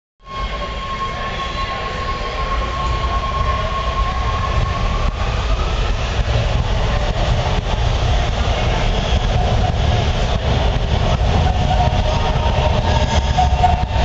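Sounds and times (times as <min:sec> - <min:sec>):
high whine rising in pitch: 0:00.2 - 0:14.0
subway train rumble: 0:00.2 - 0:14.0.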